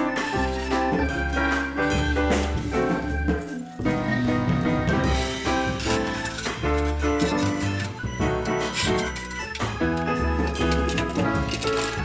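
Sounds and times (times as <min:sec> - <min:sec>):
instrumental music with bass and organ: 0:00.0 - 0:12.0.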